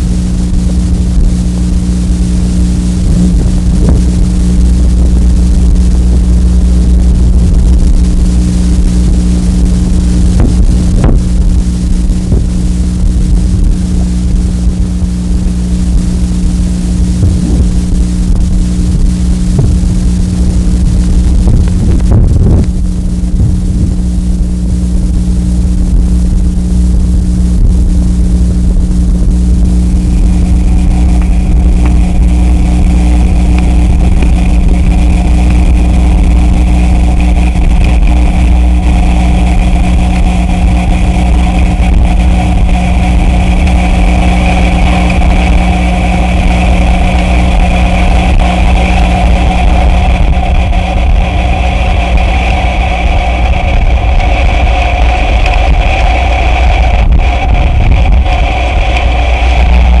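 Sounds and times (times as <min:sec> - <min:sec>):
droning electronic tones: 0:00.0 - 1:00.0
low electronic rumble: 0:00.0 - 1:00.0.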